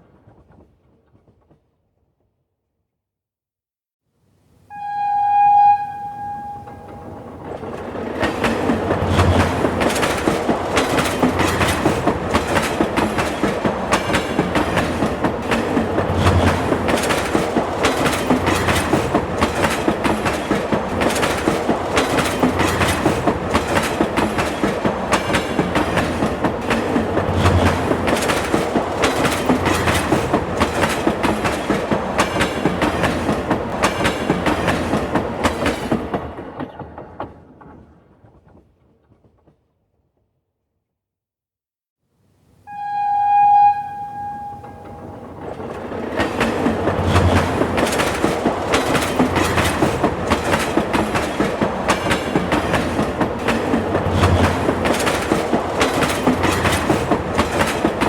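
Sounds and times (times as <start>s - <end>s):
train rumble: 4.7s - 39.5s, 42.7s - 58.0s
train wheels clattering on rails: 6.3s - 39.7s, 44.2s - 58.0s.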